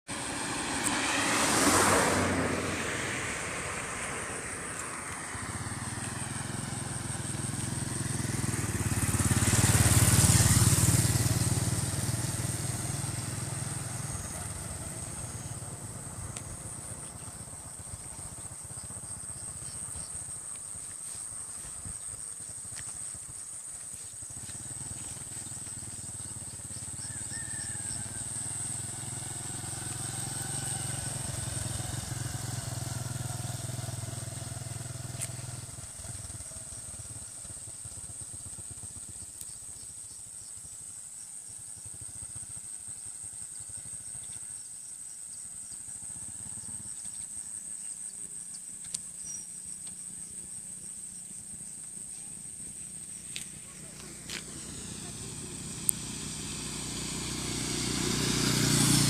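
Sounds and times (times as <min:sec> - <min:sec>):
motorcycle engine approaching: 0:00.1 - 0:59.0
vehicles passing on road: 0:00.1 - 0:59.0.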